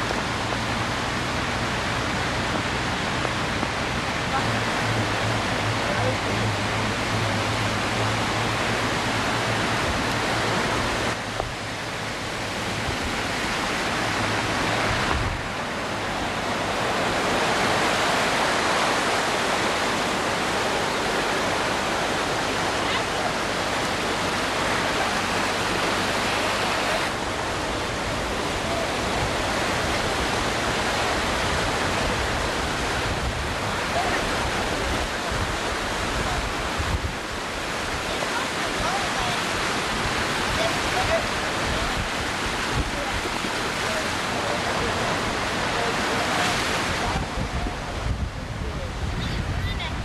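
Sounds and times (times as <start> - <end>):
floodwater rushing: 0.0 - 50.0.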